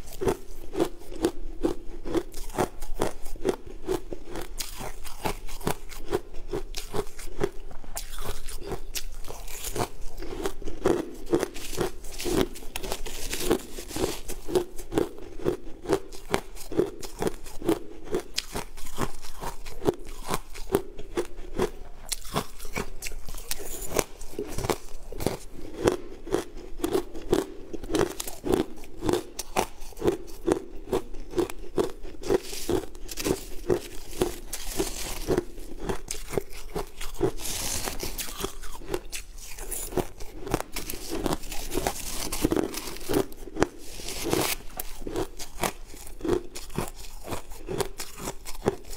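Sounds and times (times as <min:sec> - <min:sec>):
crushed ice being chewed: 0:00.0 - 0:48.9.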